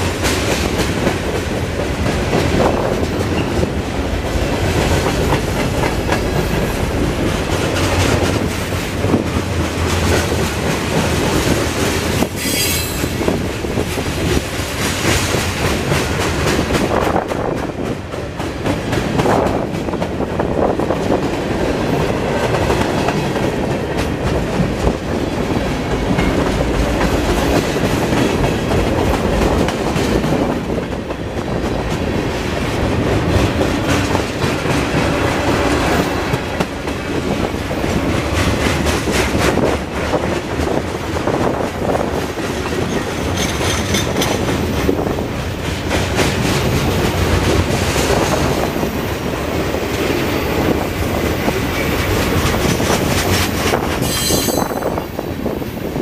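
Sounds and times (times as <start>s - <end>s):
freight train rumbling past: 0.0s - 56.0s
wheels clacking on rails: 0.0s - 56.0s.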